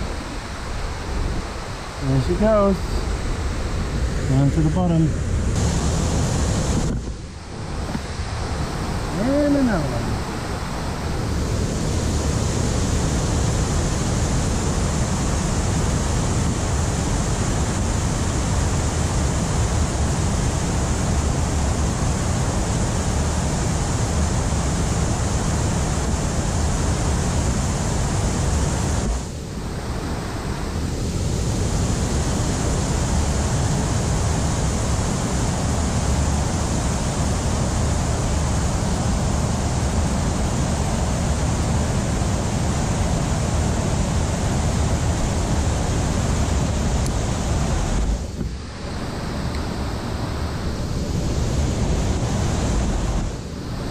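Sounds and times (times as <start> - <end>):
river water rushing: 0.0 - 53.9
wind: 0.0 - 53.9.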